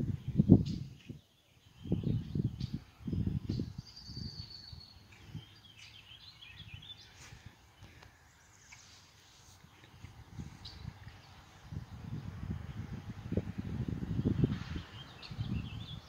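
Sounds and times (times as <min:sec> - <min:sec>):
wind buffeting microphone: 0:00.0 - 0:08.1, 0:09.6 - 0:16.0
small birds chirping: 0:00.0 - 0:16.0.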